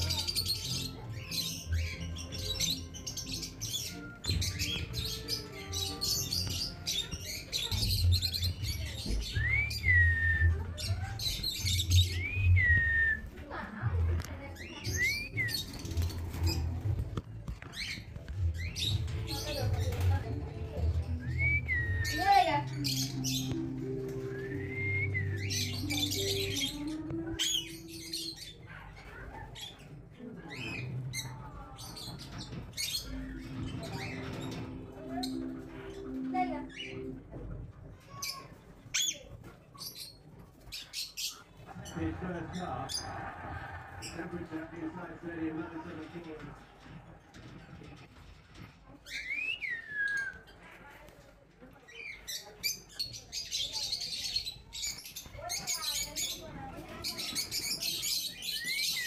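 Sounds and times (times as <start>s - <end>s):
background music low notes: 0.0s - 40.7s, 41.4s - 50.1s
parakeets chattering: 0.0s - 59.0s.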